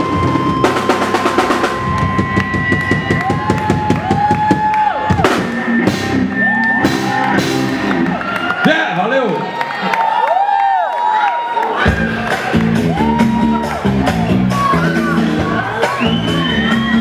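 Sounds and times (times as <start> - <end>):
live band playing: 0.0 - 9.2, 11.7 - 17.0.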